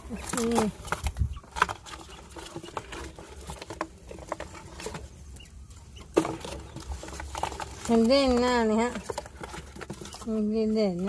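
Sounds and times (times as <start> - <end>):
straw and cardboard rustling: 0.0 - 11.0.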